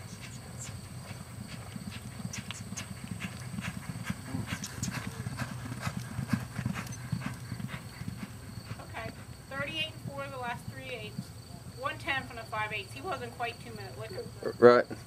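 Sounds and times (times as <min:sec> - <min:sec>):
horse hoofbeats galloping on dirt: 0:00.0 - 0:14.4.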